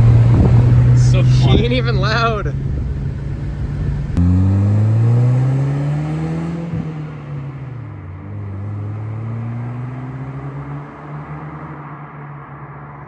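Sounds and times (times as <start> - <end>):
car exhaust rising in pitch: 0.0 - 11.7.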